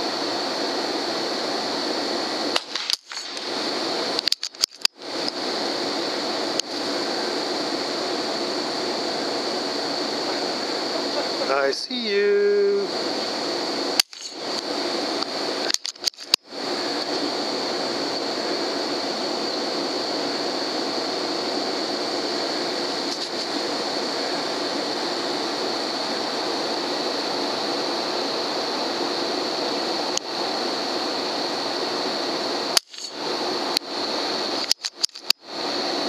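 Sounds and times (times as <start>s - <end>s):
steady hiss with high whine: 0.0s - 36.0s.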